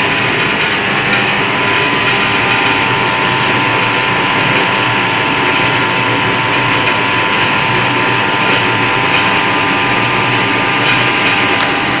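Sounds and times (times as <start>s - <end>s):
constant high whine: 0.0s - 12.0s
machine clatter and hum: 0.0s - 12.0s.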